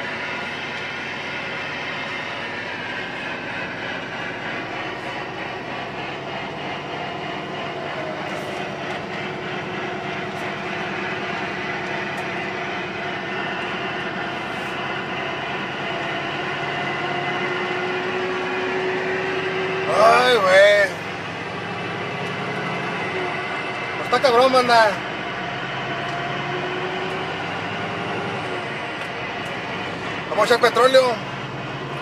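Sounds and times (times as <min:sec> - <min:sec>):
truck engine and road drone: 0:00.0 - 0:32.0.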